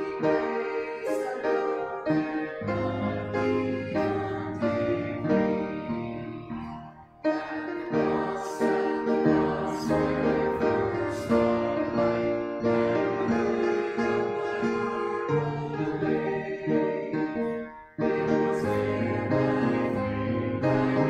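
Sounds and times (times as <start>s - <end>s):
congregation singing a hymn: 0.0s - 21.0s
piano accompaniment: 0.0s - 21.0s.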